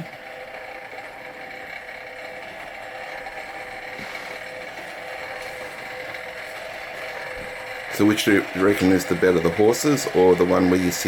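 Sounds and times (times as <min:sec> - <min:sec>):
engine mechanical whir: 0:00.0 - 0:11.0.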